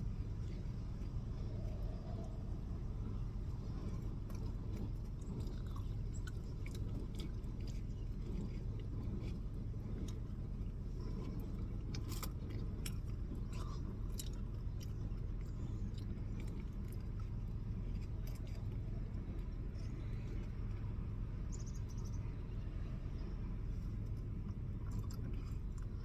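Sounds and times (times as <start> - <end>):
steady low hum: 0.0 - 26.0
person chewing food: 0.3 - 19.6, 24.1 - 26.0.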